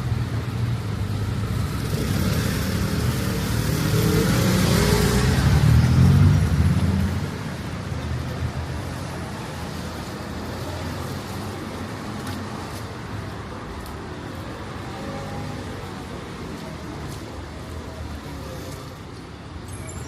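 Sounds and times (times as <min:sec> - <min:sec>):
city traffic noise: 0:00.0 - 0:20.0.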